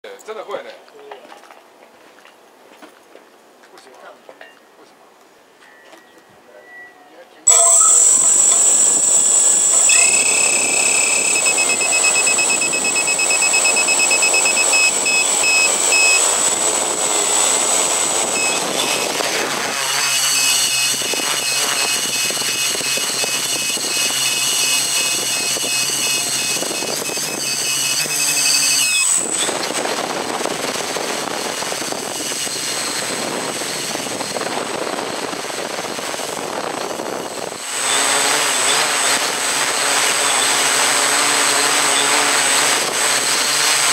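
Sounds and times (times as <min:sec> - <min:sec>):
drone motors whining: 0:07.5 - 0:43.9.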